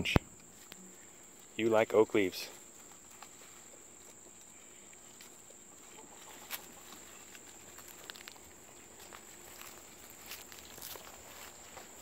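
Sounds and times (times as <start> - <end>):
high insect drone: 0.0 - 12.0
goats chewing leaves: 0.4 - 12.0.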